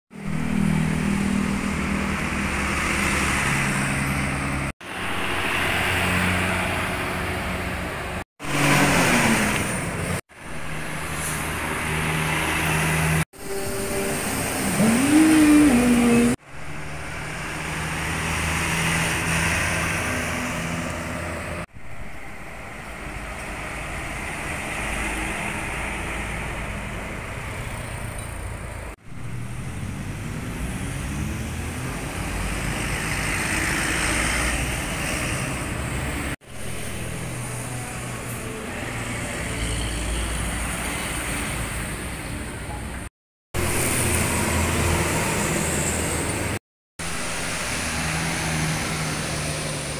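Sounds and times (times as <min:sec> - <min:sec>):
tyre and traffic noise: 0:00.1 - 0:49.9.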